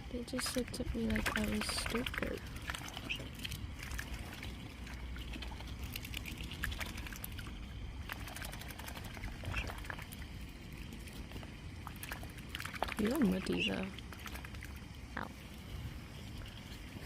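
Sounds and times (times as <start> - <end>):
swans pecking with sharp clicks: 0.4 - 15.4.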